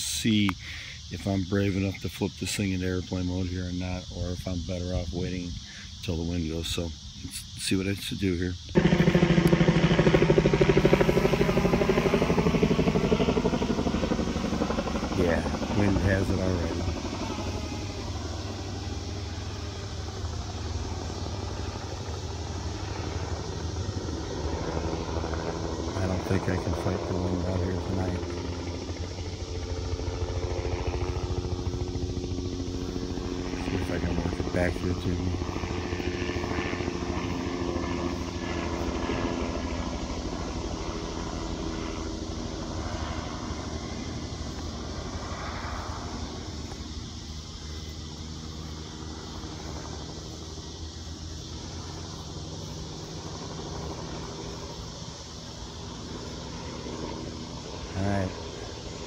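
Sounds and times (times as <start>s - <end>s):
small electric motors and propellers: 2.8s - 59.0s.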